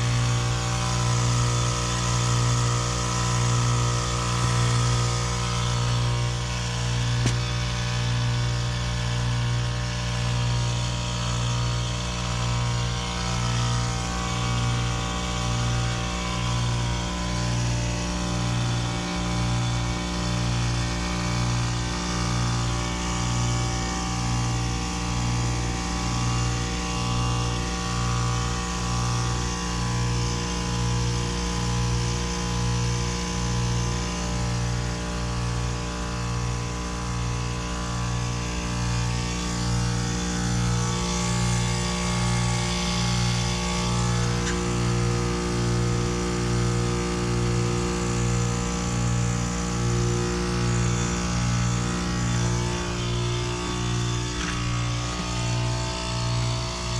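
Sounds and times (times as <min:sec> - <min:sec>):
throbbing compressor hum: 0:00.0 - 0:56.9.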